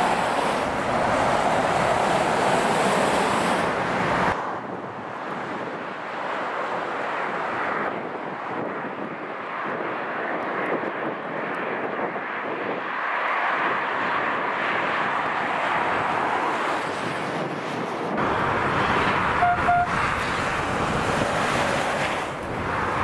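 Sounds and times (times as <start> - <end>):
highway traffic roar: 0.0 - 23.0.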